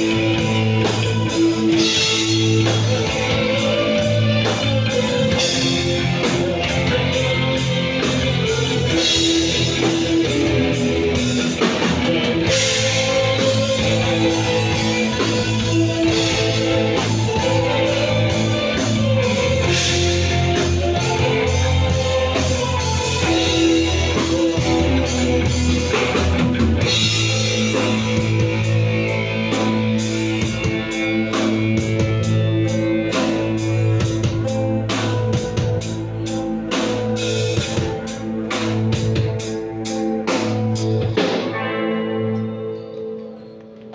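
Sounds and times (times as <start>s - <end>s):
rock band playing live: 0.0s - 43.9s.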